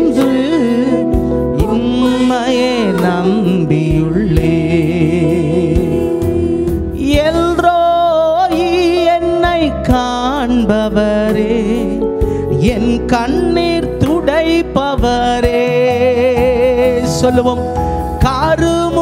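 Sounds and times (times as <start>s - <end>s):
instrumental accompaniment: 0.0s - 19.0s
person singing with vibrato: 0.0s - 19.0s.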